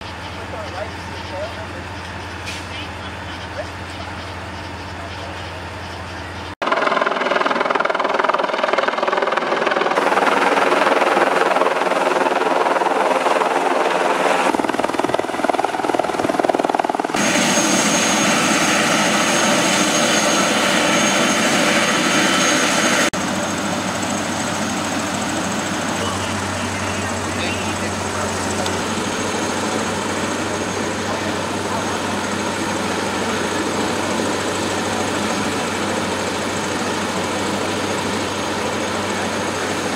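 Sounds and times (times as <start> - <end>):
helicopter rotor and turbine: 0.1 - 39.9.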